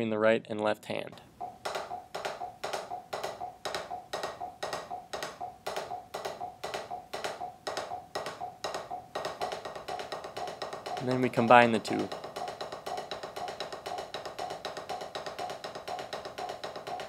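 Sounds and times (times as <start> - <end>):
drumsticks tapping practice pad: 1.1 - 17.0
metronome beeping: 1.3 - 17.0.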